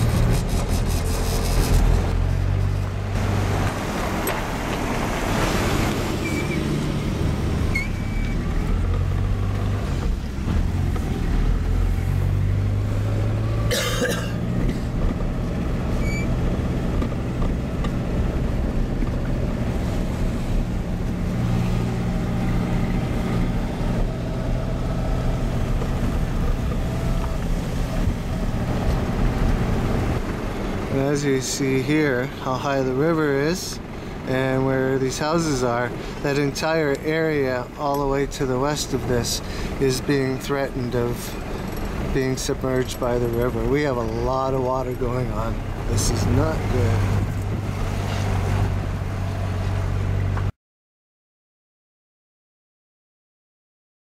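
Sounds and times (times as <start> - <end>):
car engine and road noise: 0.0 - 50.6.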